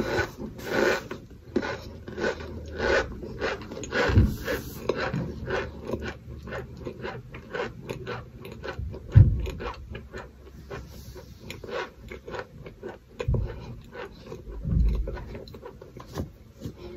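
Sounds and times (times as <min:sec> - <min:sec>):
crunchy cereal being chewed: 0:00.0 - 0:16.8.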